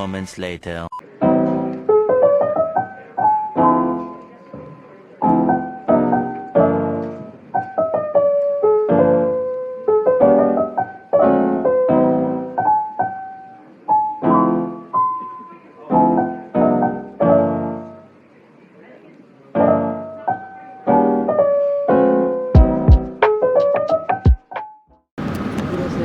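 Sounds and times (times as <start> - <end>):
piano music: 0.0 - 18.2, 19.5 - 24.9.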